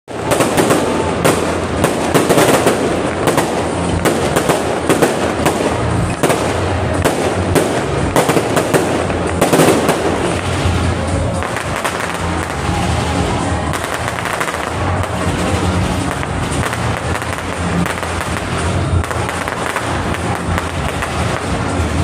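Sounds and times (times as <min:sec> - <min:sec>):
firework shells bursting: 0:00.1 - 0:22.0.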